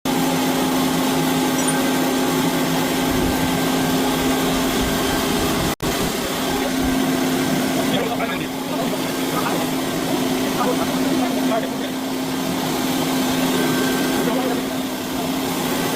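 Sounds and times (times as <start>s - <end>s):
escalator cleaner motor hum: 0.1s - 15.9s.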